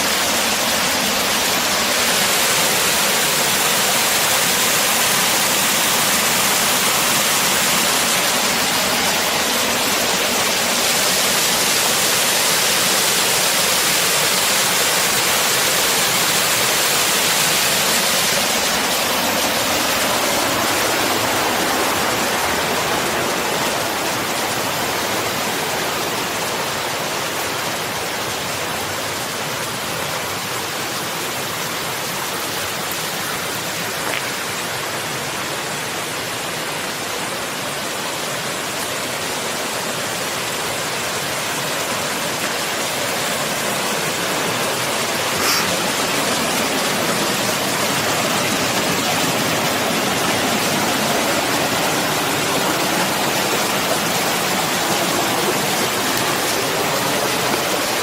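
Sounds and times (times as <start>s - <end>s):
waterfall rushing water: 0.0s - 58.0s.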